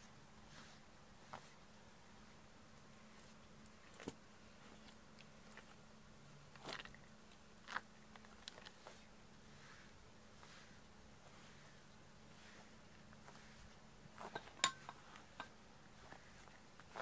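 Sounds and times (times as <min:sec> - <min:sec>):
faint steady hum: 0:00.0 - 0:17.0
soft rustles and clicks: 0:00.0 - 0:17.0.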